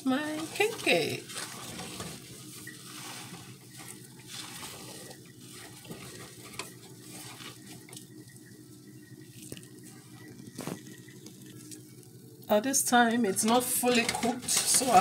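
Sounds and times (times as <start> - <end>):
wooden spoon stirring dough in a pan: 0.0 - 11.7, 13.3 - 15.0.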